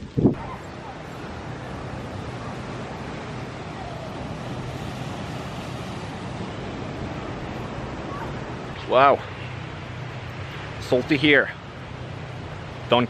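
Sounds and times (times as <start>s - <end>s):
ocean surf: 0.0s - 13.0s
wind: 0.0s - 13.0s.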